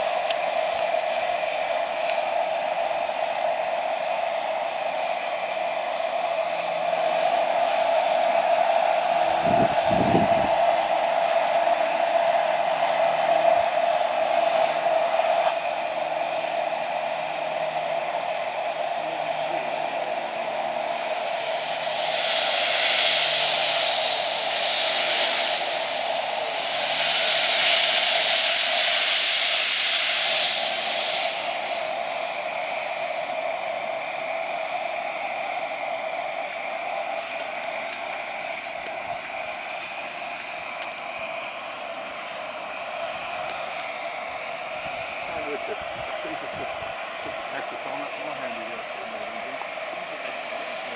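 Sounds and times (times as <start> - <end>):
steam hiss blasts: 0.0 - 50.9
steam locomotive hissing hum: 0.0 - 50.9.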